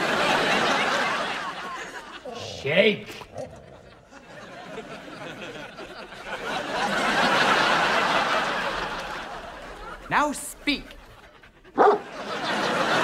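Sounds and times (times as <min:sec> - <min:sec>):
studio audience laughing: 0:00.0 - 0:13.0.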